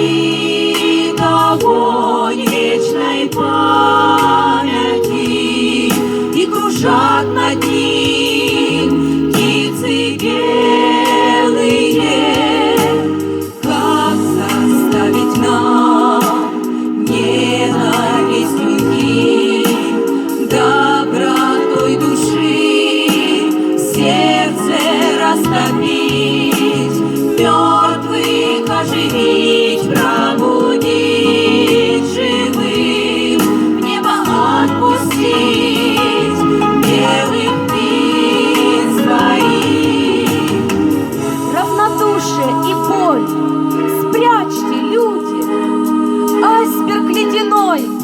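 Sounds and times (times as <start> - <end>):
sustained instrumental chords: 0.0 - 48.0
vocal ensemble singing: 0.0 - 48.0.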